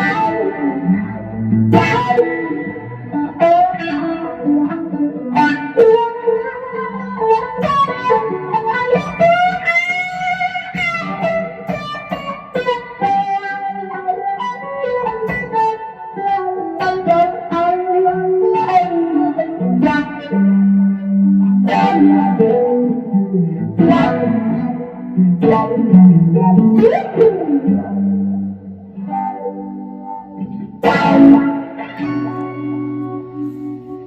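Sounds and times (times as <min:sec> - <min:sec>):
electric guitar blues-rock lead: 0:00.0 - 0:34.0.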